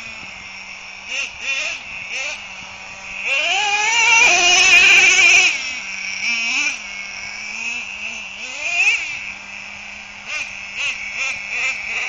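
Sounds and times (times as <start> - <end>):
remote-control truck engine revving: 0.0 - 12.0.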